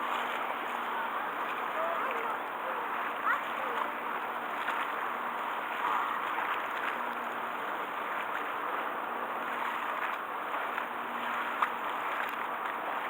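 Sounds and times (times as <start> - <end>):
churning water: 0.0 - 13.0
low ferry engine hum: 0.0 - 13.0
wind: 0.0 - 13.0.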